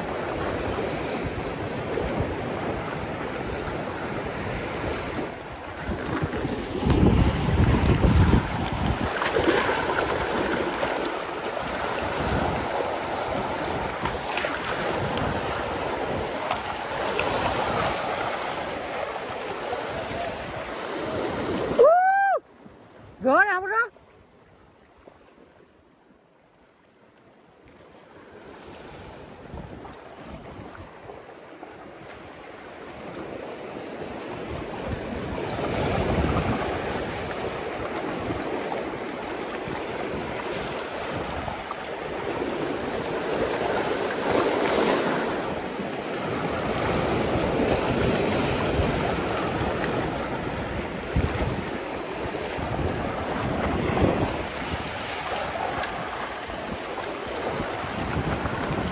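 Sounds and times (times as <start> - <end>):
wind on microphone: 0.0 - 22.4, 28.7 - 58.9
sea surf washing ashore: 0.0 - 58.9.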